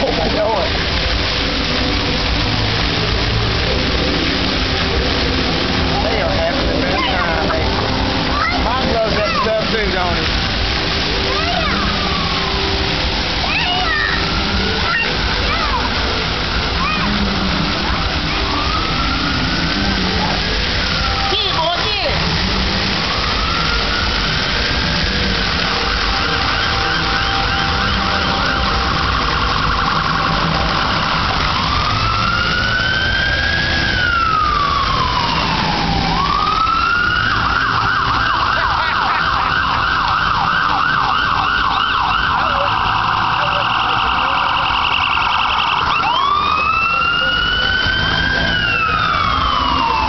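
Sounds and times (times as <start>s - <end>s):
fountain water jets hissing: 0.0s - 50.0s
emergency siren wailing and yelping: 2.8s - 50.0s.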